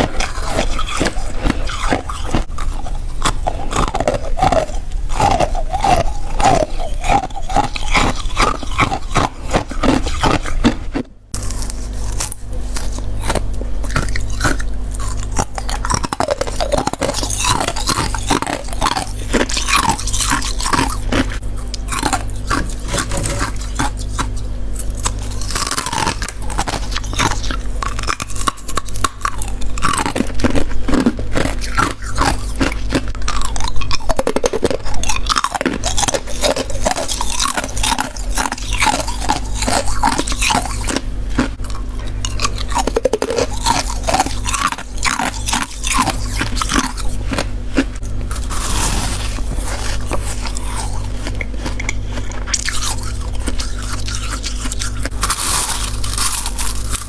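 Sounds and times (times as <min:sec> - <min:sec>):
frost being chewed: 0:00.0 - 0:57.0
low steady hum: 0:00.0 - 0:57.0.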